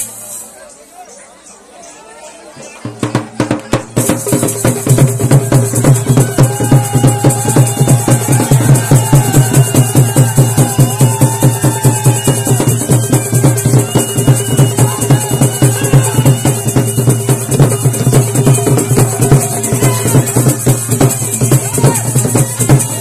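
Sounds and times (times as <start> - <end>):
steady drumming: 2.8 - 23.0.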